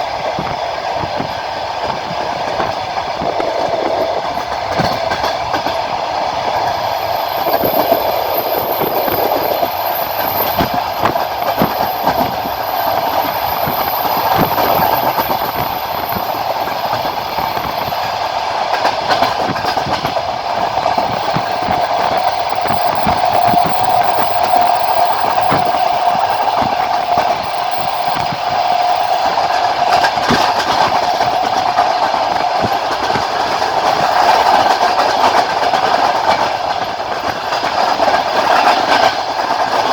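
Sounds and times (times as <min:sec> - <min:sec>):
train running rumble and rail hum: 0:00.0 - 0:39.9
train wheels clattering on rail joints: 0:00.0 - 0:39.9.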